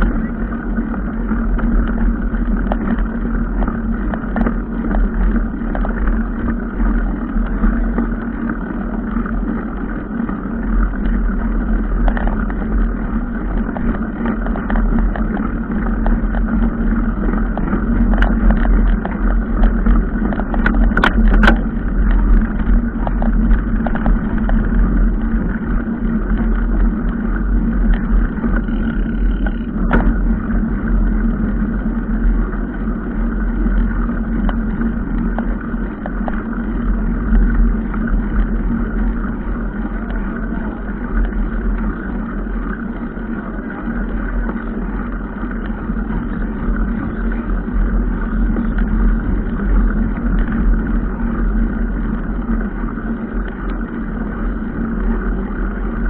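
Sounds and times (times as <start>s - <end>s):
vehicle engine and road hum: 0.0s - 56.0s.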